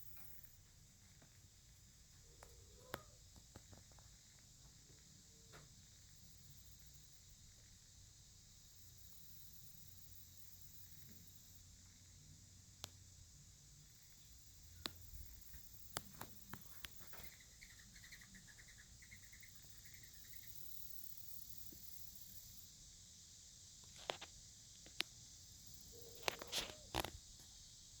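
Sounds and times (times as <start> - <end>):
faint high-pitched hiss: 0.0 - 28.0.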